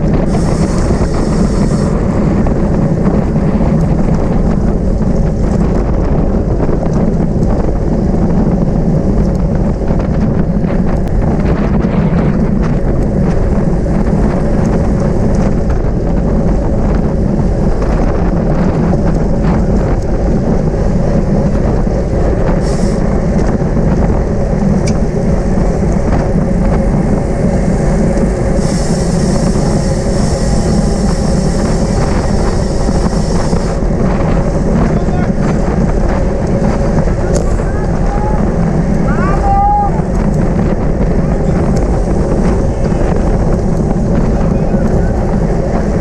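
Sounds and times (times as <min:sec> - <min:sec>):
wind noise on microphone: 0:00.0 - 0:46.0.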